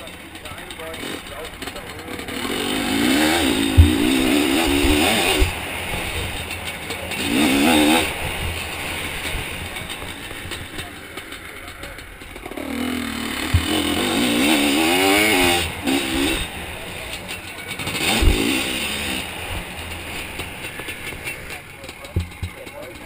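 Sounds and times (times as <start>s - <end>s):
sharp thumps: 0.0s - 22.8s
two-stroke engine revving: 0.0s - 23.0s.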